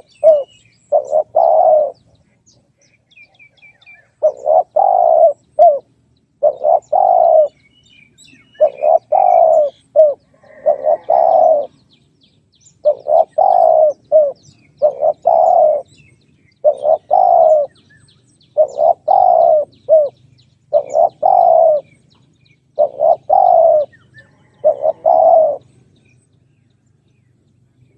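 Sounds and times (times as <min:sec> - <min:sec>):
dove cooing: 0:00.0 - 0:02.1, 0:03.2 - 0:11.8, 0:12.8 - 0:17.9, 0:18.6 - 0:22.0, 0:22.7 - 0:25.8.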